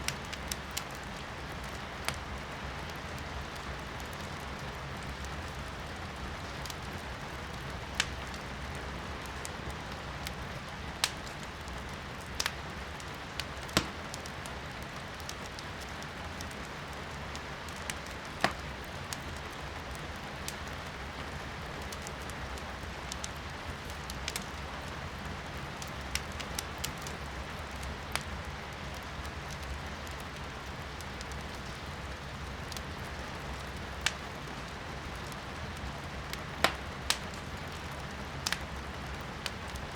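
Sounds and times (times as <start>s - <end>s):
rain hissing outside: 0.0s - 39.9s
wood fire crackling and popping: 0.0s - 39.9s.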